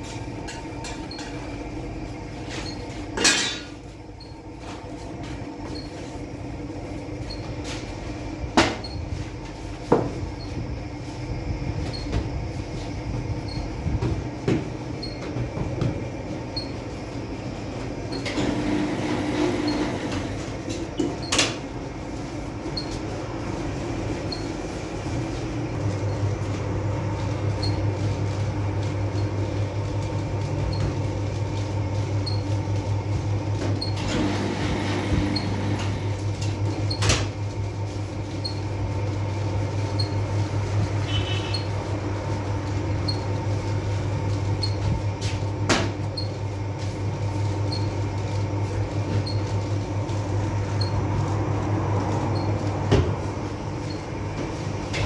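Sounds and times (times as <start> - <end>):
dough sheeter humming: 0.0 - 55.0.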